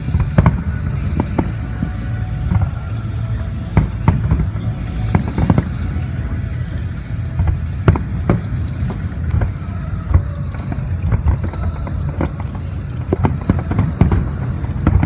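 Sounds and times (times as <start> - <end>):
fireworks sharp bangs: 0.0 - 15.0.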